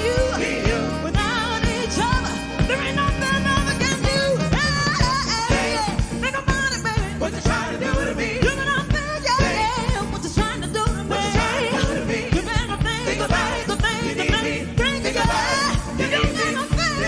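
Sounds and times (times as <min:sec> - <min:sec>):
live soul band playing: 0:00.0 - 0:17.0
steady drum beat: 0:00.0 - 0:17.0
voices singing: 0:00.0 - 0:17.0.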